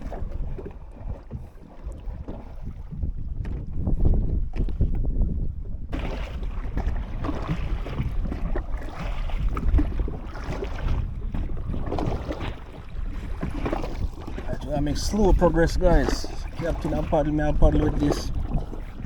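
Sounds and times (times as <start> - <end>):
water splashing from paddling: 0.0 - 19.0
wind on microphone: 0.0 - 19.0.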